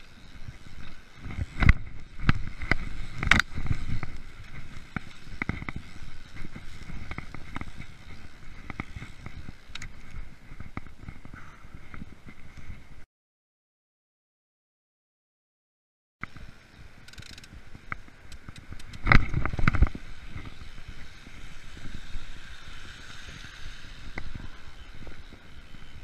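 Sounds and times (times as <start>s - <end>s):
bike rattling and knocking: 0.0s - 12.8s, 16.2s - 26.0s.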